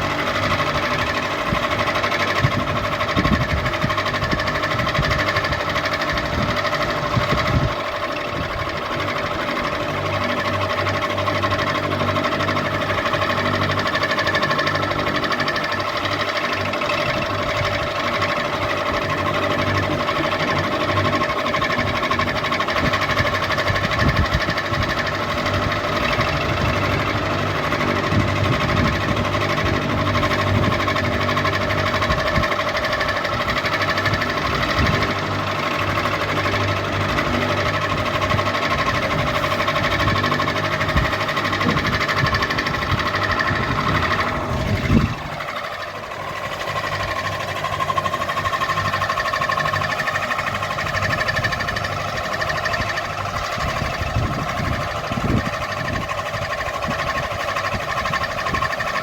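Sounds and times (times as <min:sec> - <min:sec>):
ceiling fan motor humming: 0:00.0 - 0:59.0
low rattling clatter: 0:00.0 - 0:59.0.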